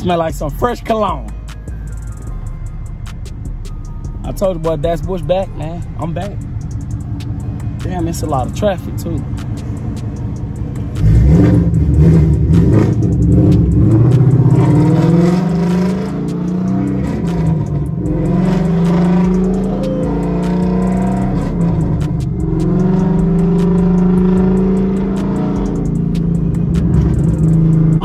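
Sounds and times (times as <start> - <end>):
car engine accelerating: 3.1 - 28.0.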